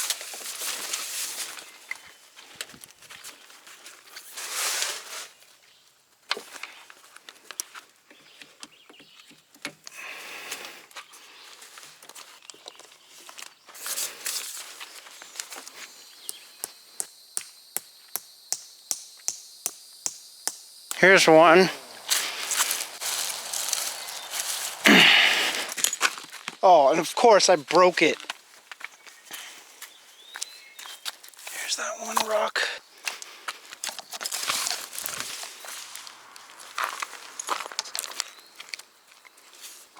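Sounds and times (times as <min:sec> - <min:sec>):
camp gear rustling: 0:00.0 - 0:16.8, 0:21.0 - 0:39.9.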